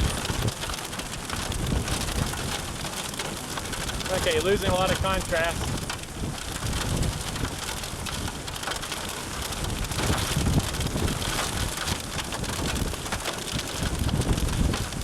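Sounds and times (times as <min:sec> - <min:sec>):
hailstones striking: 0:00.0 - 0:15.0
rain falling: 0:00.0 - 0:15.0
wind buffeting microphone: 0:00.0 - 0:15.0.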